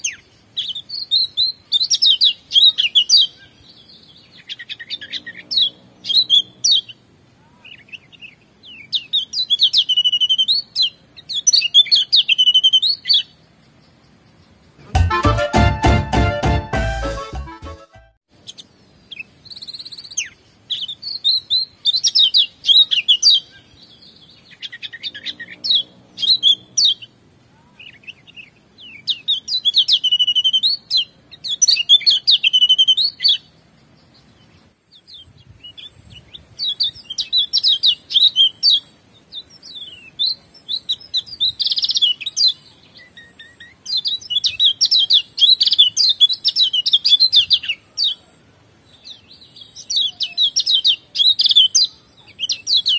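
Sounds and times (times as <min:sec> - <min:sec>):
bird twittering song: 0:00.0 - 0:14.9, 0:18.3 - 0:52.9.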